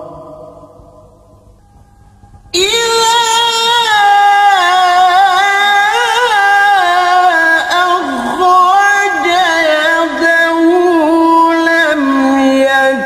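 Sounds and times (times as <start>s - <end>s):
person reciting melodically: 0.0s - 0.9s, 2.6s - 13.0s.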